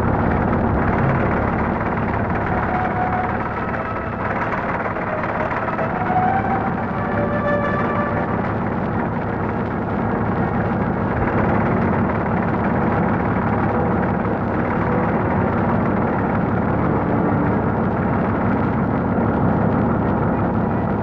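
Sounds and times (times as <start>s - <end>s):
tractor diesel engine rumbling: 0.0s - 21.0s.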